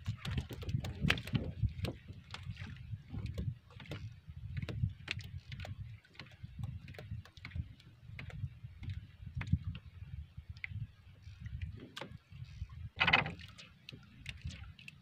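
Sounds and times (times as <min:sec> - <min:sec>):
wind and sea water rumble: 0:00.0 - 0:15.0.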